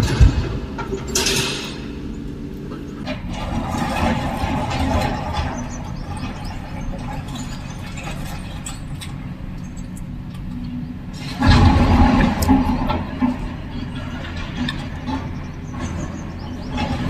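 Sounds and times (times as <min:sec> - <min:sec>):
heavy diesel machinery running: 0:00.0 - 0:17.0
loud rumble: 0:00.0 - 0:17.0.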